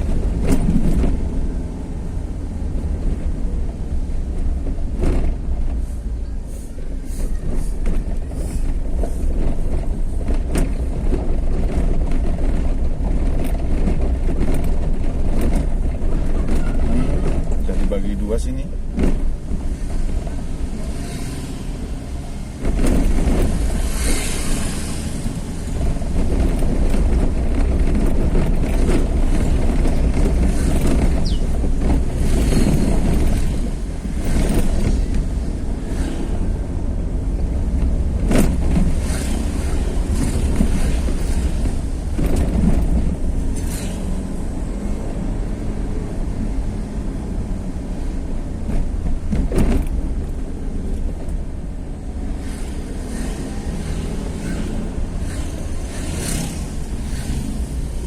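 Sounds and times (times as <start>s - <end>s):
vehicle jolting over bumps: 0.0s - 5.8s, 7.4s - 58.0s
vehicle engine and road rumble: 0.0s - 58.0s.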